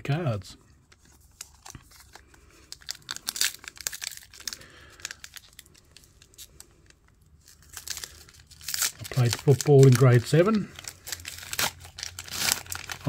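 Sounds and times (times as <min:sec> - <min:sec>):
foil card pack tearing: 0:01.4 - 0:06.5, 0:07.4 - 0:13.0.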